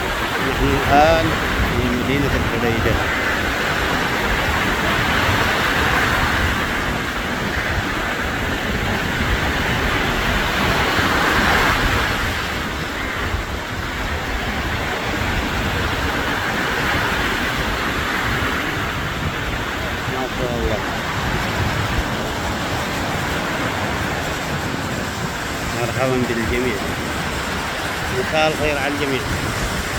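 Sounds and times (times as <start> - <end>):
surf washing on shore: 0.0 - 29.9
wind buffeting microphone: 0.0 - 29.9.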